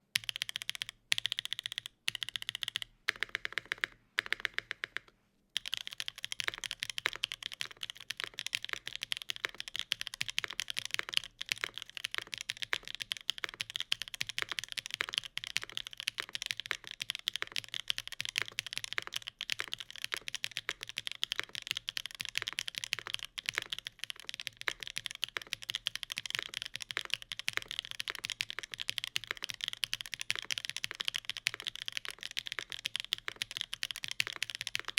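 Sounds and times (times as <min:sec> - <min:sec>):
mechanical keyboard typing: 0:00.2 - 0:34.9.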